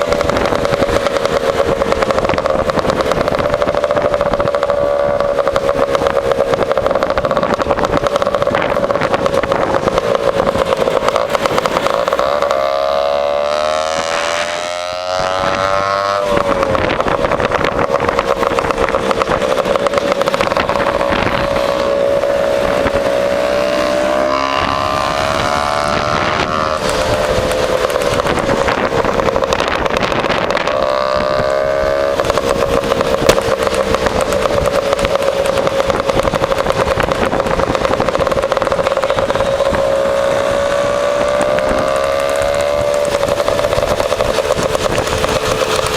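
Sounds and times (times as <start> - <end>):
other scooter engines: 0.0 - 45.9
scooter engine cruising: 0.0 - 45.9.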